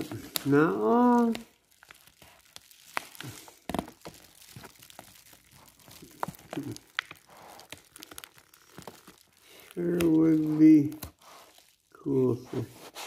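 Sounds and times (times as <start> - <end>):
small crackles and clicks: 0.0 - 12.2
stiff paper crinkling: 0.0 - 13.0.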